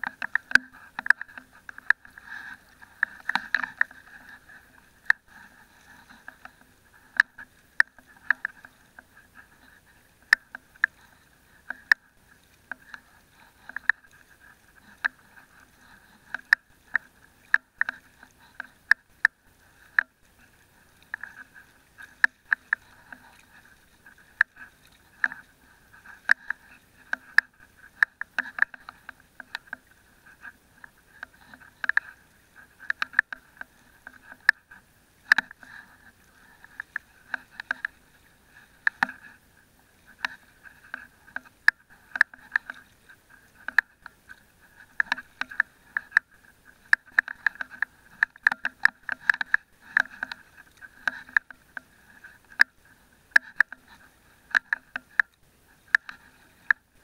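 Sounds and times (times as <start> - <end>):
fishing net clicks and taps: 0.0 - 12.0, 12.6 - 20.2, 20.9 - 32.2, 32.8 - 34.6, 35.2 - 35.9, 36.6 - 39.3, 40.1 - 43.0, 43.6 - 56.9.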